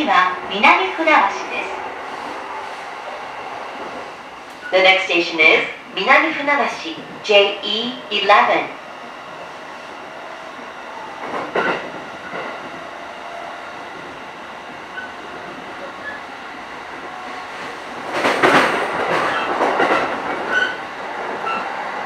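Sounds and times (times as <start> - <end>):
train interior rumble: 0.0 - 22.0.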